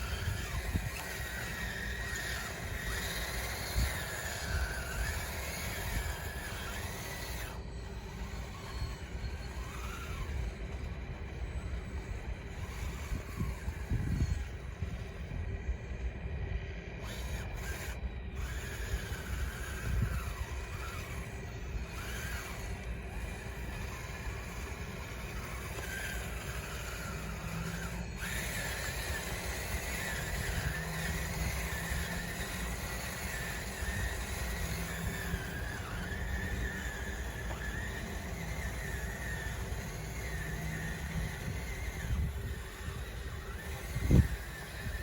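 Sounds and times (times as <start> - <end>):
electric motor whine: 0.0 - 45.0.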